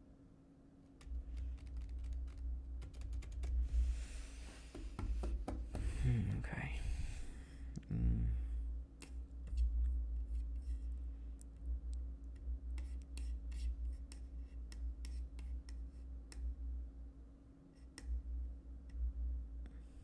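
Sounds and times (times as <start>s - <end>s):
low background rumble: 1.0s - 20.0s.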